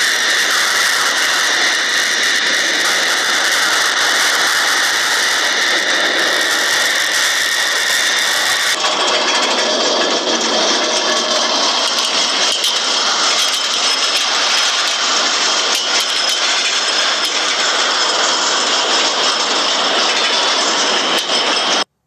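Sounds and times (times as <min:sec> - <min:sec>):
loud rushing roar: 0:00.0 - 0:21.9.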